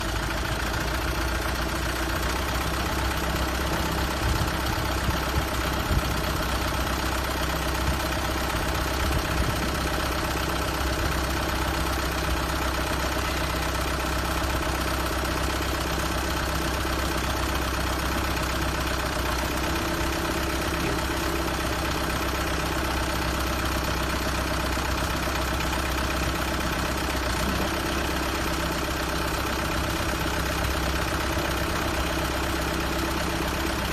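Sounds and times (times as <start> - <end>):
engine knocks: 0.0 - 33.9
tractor diesel engine idling: 0.0 - 33.9.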